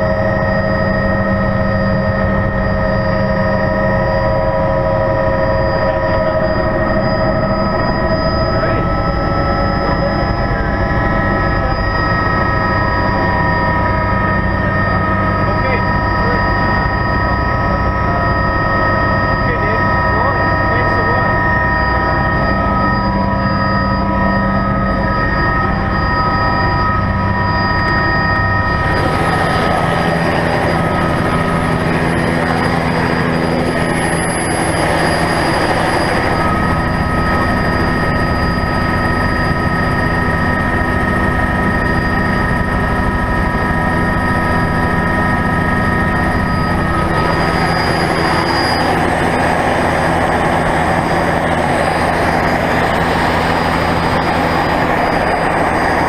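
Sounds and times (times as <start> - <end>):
helicopter engine and rotor drone: 0.0 - 56.0
helicopter turbine whine: 0.0 - 56.0.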